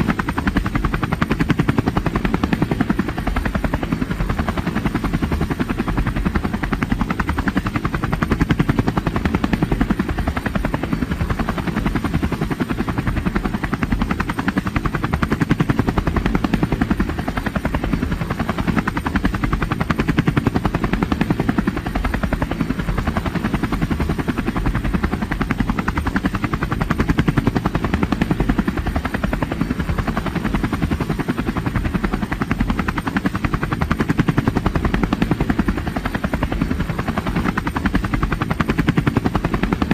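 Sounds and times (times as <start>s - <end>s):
helicopter engine running: 0.0s - 39.9s
helicopter rotor blades chopping: 0.0s - 39.9s.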